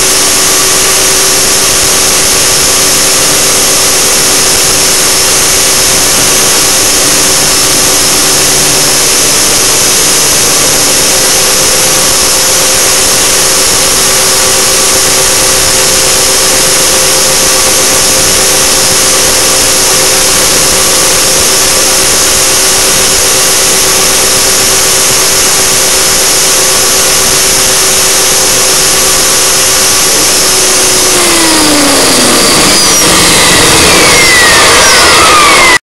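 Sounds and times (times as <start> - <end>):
rc helicopter motor whine: 0.0 - 35.8.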